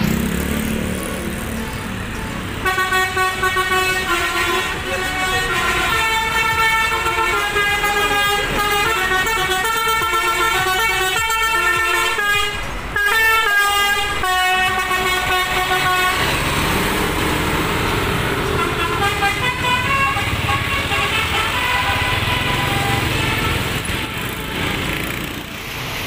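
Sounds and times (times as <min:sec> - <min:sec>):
coach engine: 0:00.0 - 0:26.0
road noise: 0:00.0 - 0:26.0
multi-tone horn playing a tune: 0:02.6 - 0:16.8, 0:17.6 - 0:25.2.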